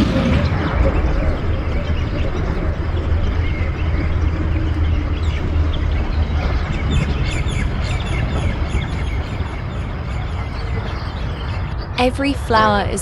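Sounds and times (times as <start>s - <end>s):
bird rapid high chirps: 0.0s - 12.7s
small birds chirping: 0.0s - 13.0s
steady low rumble: 0.0s - 13.0s.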